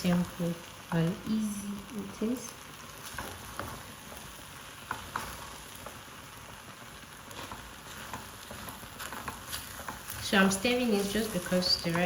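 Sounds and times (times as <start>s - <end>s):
rice cooking sizzling hiss: 0.0s - 12.0s.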